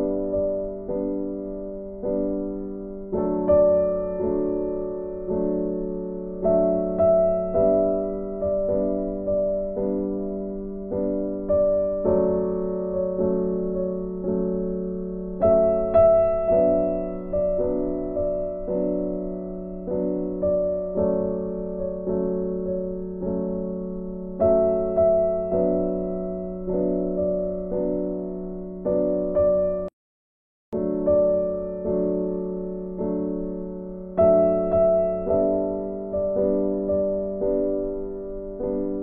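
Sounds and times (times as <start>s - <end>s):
gentle piano chords: 0.0s - 29.9s, 30.8s - 39.0s.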